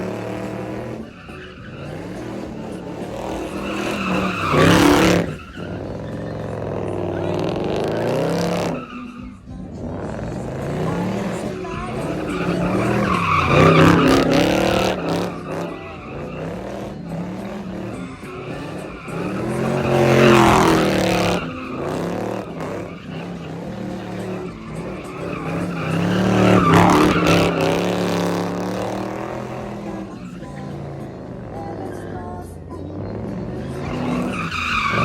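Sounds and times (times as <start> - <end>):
car engine revving: 0.0 - 35.0
tyres squealing: 0.0 - 35.0.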